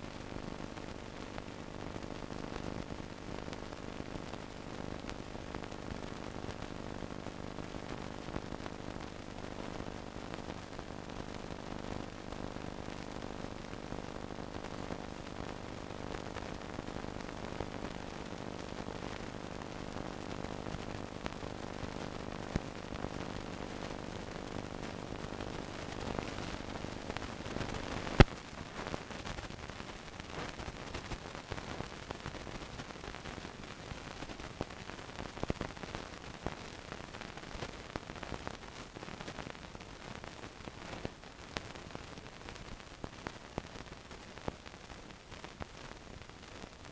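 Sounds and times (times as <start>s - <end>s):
film soundtrack hiss and crackle: 0.0s - 46.9s.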